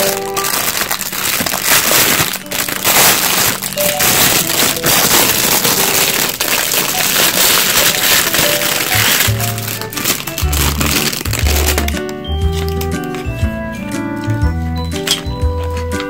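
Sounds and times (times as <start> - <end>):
plastic wrapping crinkling: 0.0 - 13.4
soft background music: 0.0 - 16.0.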